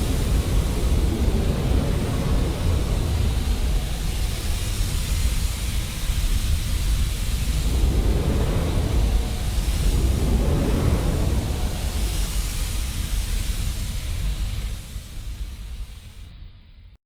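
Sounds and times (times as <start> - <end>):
flamethrower fire blast: 0.0 - 15.8
pressurized gas hissing: 0.0 - 16.3.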